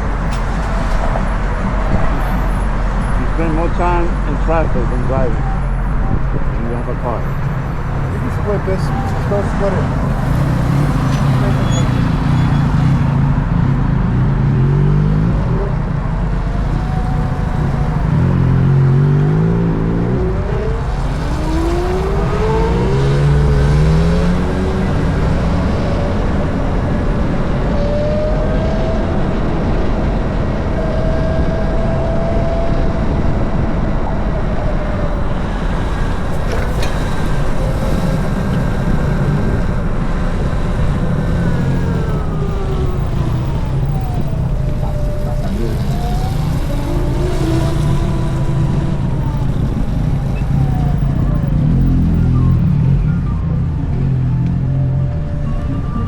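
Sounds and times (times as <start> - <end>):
road traffic rumble: 0.0 - 56.0
vehicle engines whining: 0.0 - 56.0.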